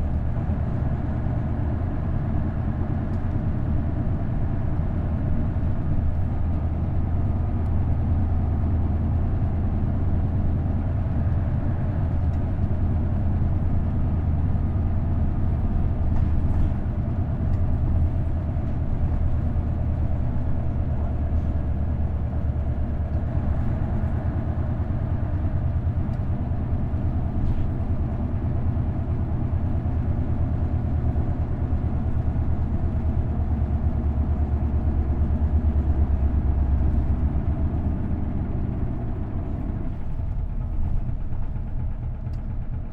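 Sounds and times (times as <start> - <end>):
diesel bus engine droning: 0.0 - 42.9.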